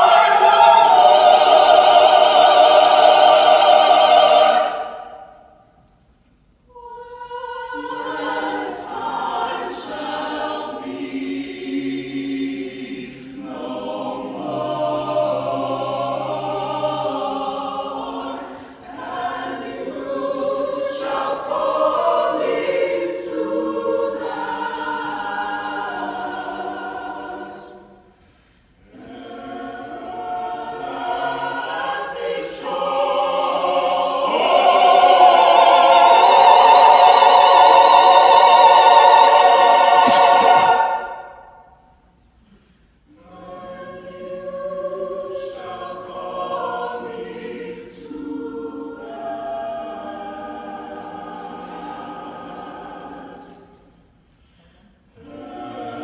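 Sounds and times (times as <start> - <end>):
mixed choir singing: 0.0 - 5.8, 6.7 - 28.2, 28.8 - 42.0, 43.1 - 56.0.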